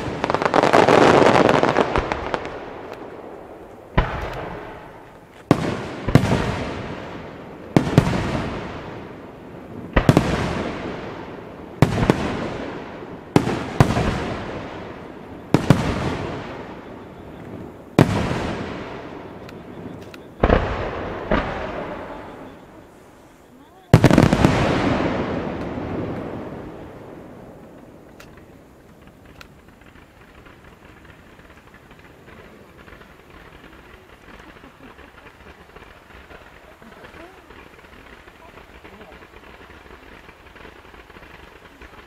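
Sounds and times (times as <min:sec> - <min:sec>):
firework booms with echoing rumble: 0:00.0 - 0:42.0.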